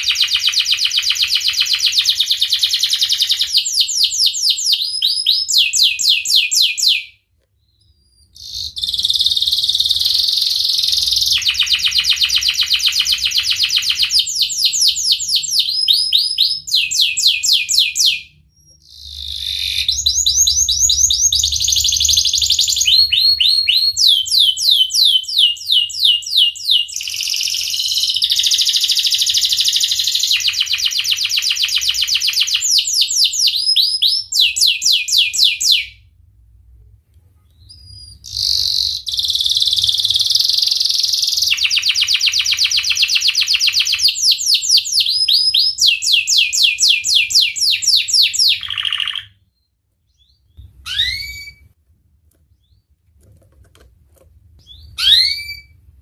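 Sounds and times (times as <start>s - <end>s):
canary singing trills: 0.0s - 36.0s, 37.5s - 51.7s, 54.6s - 55.8s.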